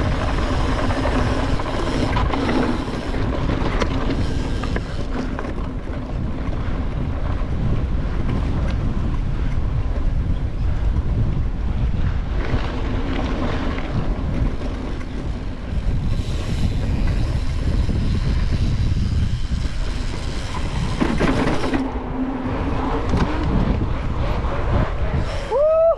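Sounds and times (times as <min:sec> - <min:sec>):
bike tyre noise: 0:00.0 - 0:25.9
wind buffeting microphone: 0:00.0 - 0:25.9.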